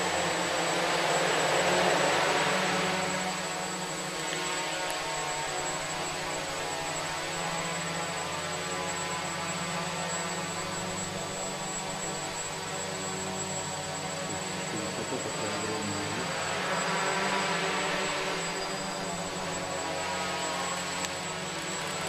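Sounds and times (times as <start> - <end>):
drone motors buzzing: 0.0 - 22.0.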